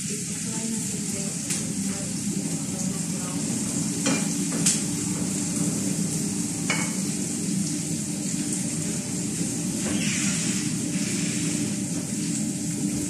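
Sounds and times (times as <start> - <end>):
onions sizzling in a pan: 0.0 - 8.2, 9.2 - 12.2.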